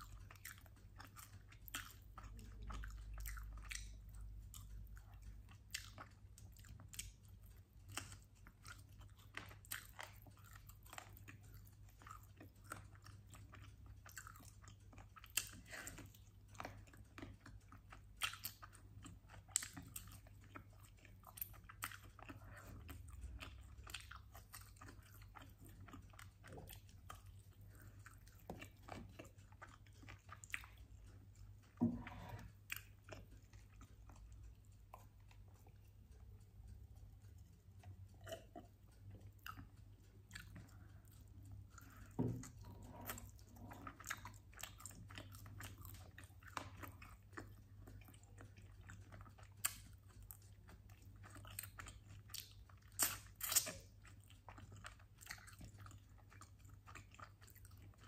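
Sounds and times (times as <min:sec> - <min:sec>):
chewing and biting: 0:00.0 - 0:58.0.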